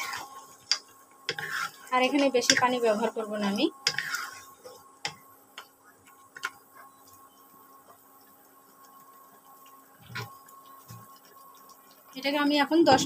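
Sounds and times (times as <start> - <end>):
electric cooktop hum: 0.0 - 13.0.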